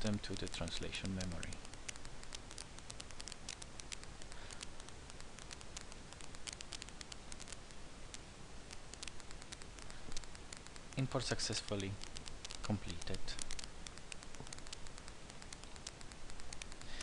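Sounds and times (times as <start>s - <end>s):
mouse and keyboard clicks: 0.0s - 17.0s
steady low hiss: 0.0s - 17.0s.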